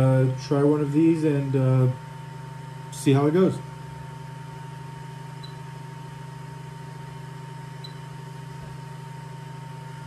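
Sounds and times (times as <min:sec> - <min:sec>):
cooling fans humming: 0:00.0 - 0:10.0.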